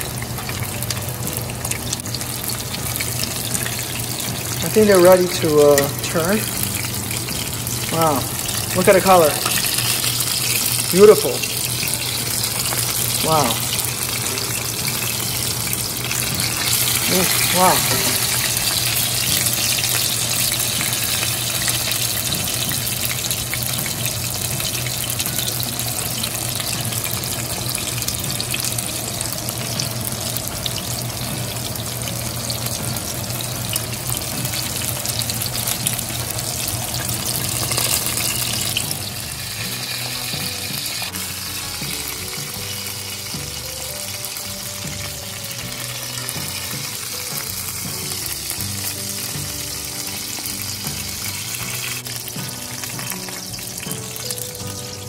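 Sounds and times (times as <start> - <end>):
chicken frying in oil: 0.0 - 55.0.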